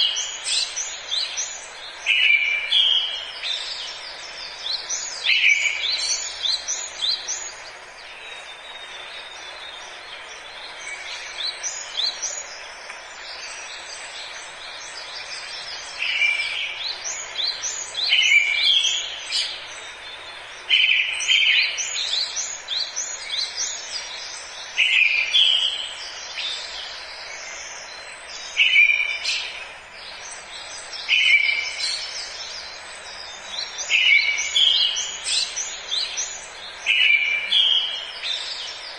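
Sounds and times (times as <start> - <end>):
birds chirping and trilling: 0.0 - 38.9
steady background hiss: 0.0 - 38.9.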